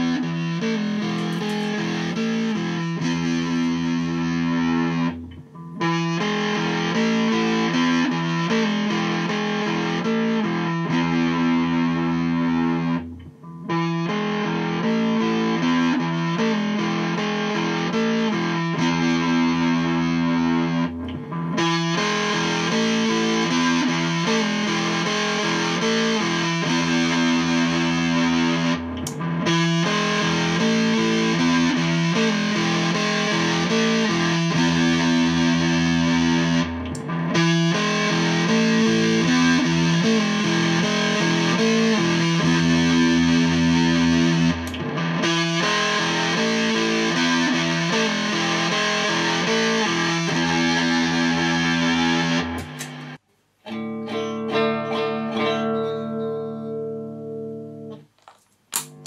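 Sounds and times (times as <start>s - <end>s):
fuzz electric guitar riff: 0.0s - 58.1s.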